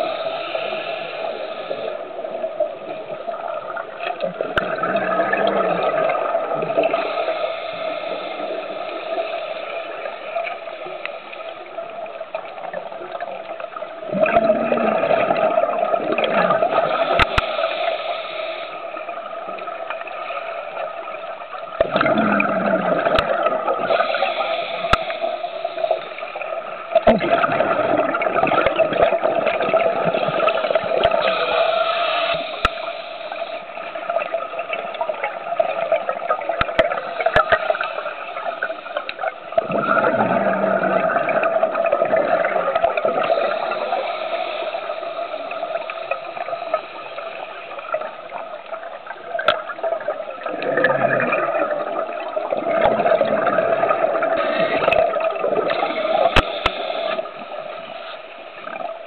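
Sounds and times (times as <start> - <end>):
underwater regulator bubbles: 0.0 - 59.0.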